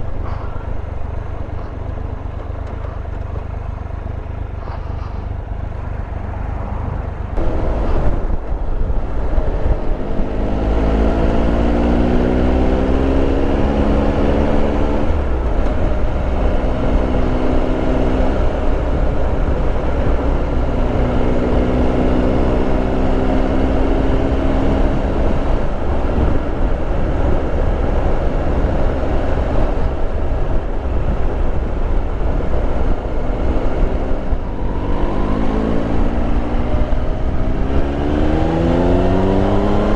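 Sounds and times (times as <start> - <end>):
low wind rumble: 0.0 - 39.9.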